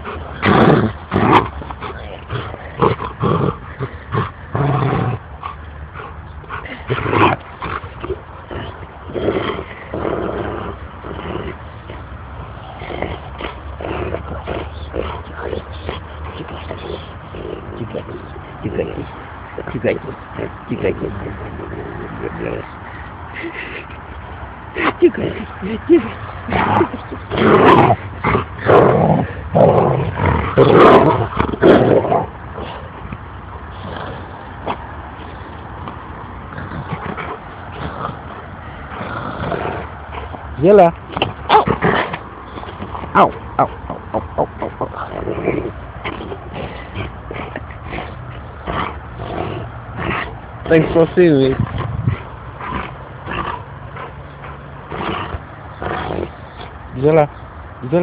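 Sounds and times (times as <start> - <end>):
dog growling: 0.0 - 24.0, 24.7 - 58.0.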